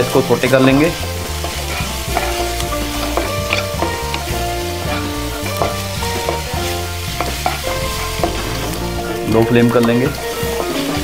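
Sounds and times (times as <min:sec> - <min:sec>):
background music: 0:00.0 - 0:11.0
spatula scraping and tapping pan: 0:00.0 - 0:11.0
vegetables sizzling in oil: 0:00.0 - 0:11.0.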